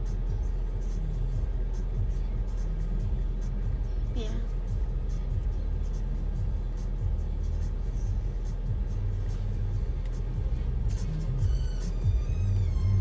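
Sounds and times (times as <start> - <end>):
car engine and road noise: 0.0 - 13.0
faint music: 0.0 - 13.0.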